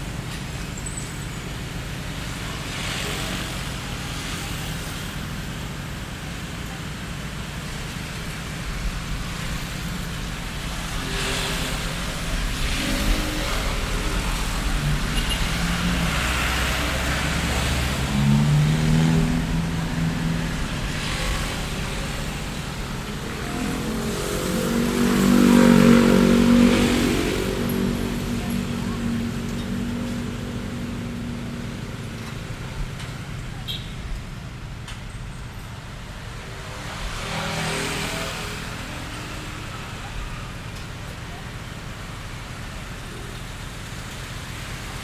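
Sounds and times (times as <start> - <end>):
low traffic rumble: 0.0 - 45.0
motor vehicles passing: 0.1 - 45.0.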